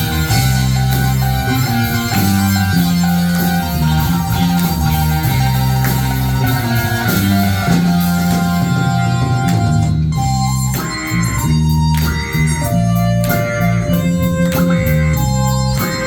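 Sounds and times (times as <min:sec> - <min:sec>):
bass guitar held notes: 0:00.0 - 0:16.0
rock band playing: 0:00.0 - 0:16.0.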